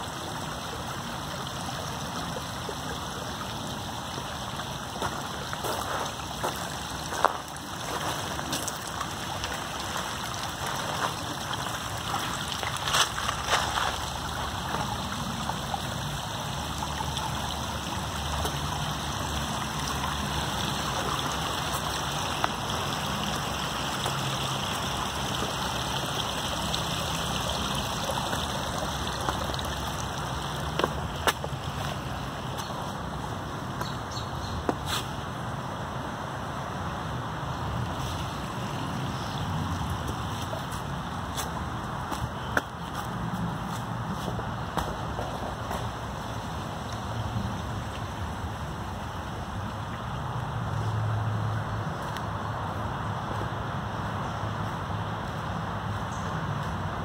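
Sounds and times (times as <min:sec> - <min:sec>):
flowing water rushing: 0:00.0 - 0:56.6.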